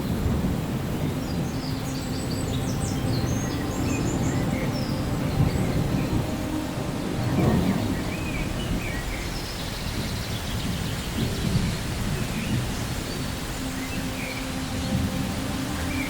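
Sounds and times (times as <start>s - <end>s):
rolling thunder rumble: 0.0s - 16.0s
steady rain: 0.0s - 16.0s.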